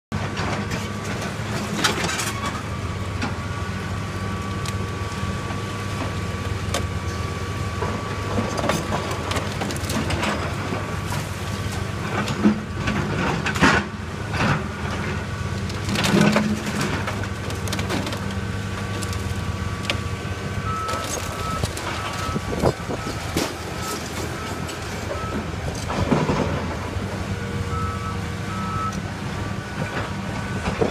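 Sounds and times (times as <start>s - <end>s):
timber and masonry crunching: 0.2s - 27.6s
excavator engine running: 0.2s - 30.9s.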